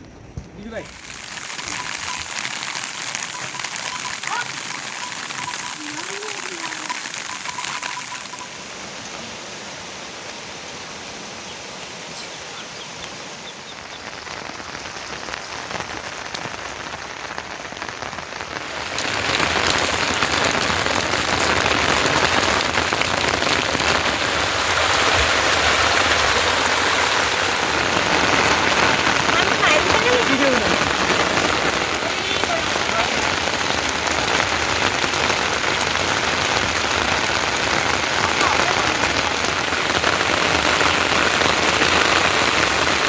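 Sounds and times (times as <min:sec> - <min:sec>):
heavy rain pattering: 0:00.0 - 0:43.0.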